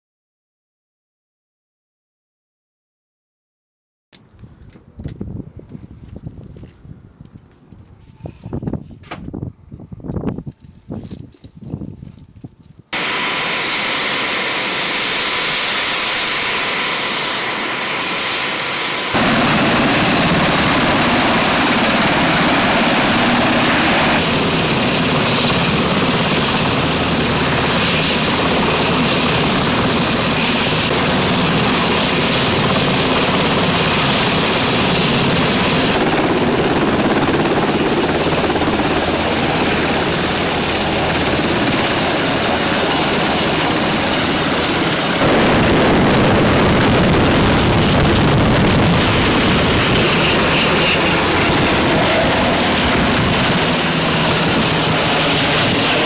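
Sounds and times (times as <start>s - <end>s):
helicopter turbines and rotors: 10.0s - 56.0s.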